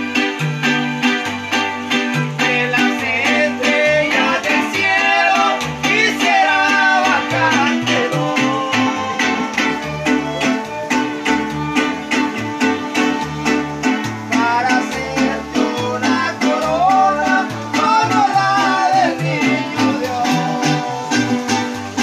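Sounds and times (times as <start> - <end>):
guitars strumming: 0.0 - 22.0
violin melody: 0.0 - 22.0.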